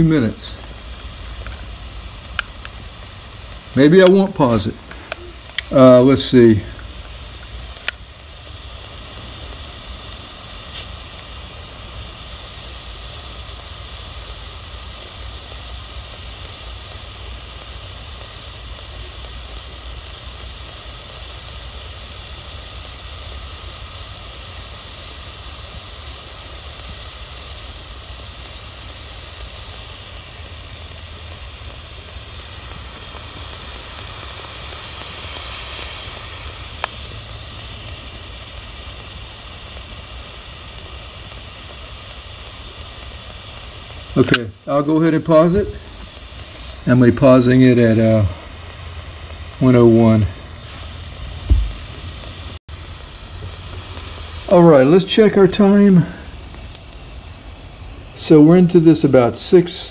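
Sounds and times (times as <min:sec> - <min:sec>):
immersion heater hissing in water: 0:00.0 - 0:59.9.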